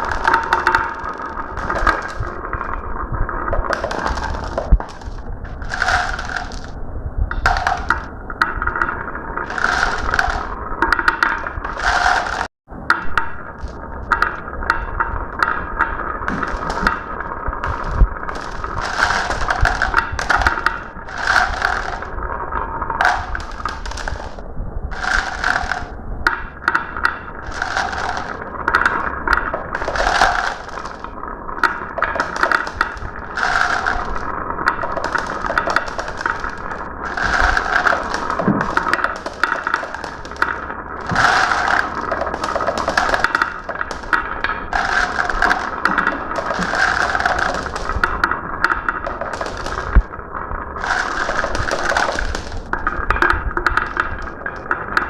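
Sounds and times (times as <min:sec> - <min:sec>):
marbles clicking and clacking: 0:00.0 - 0:55.0
marbles rolling down a track: 0:00.0 - 0:55.0.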